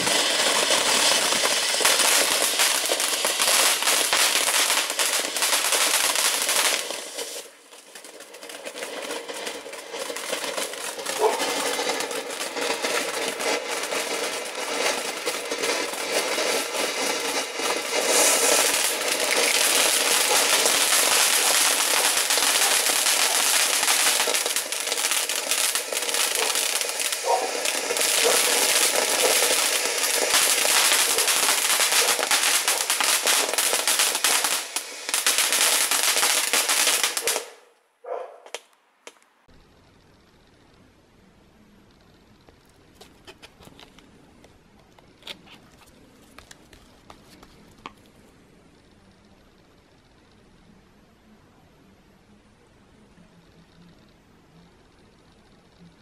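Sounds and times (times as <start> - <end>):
firework fountain hissing and crackling: 0.0 - 37.7, 41.9 - 50.8.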